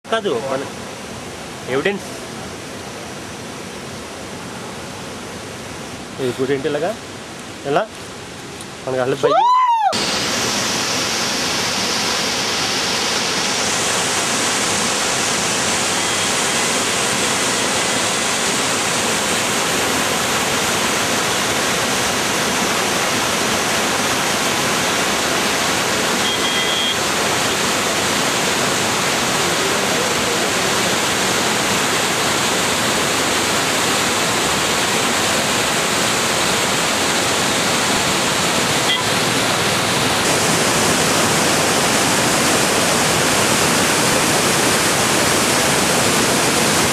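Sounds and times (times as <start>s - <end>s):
waterfall cascading over rocks: 0.1s - 46.9s.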